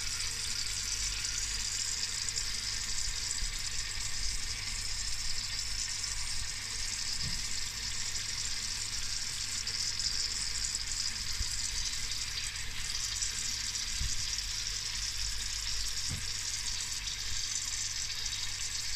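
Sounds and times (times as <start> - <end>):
low oven hum: 0.0 - 18.9
sausages sizzling and crackling: 0.0 - 18.9.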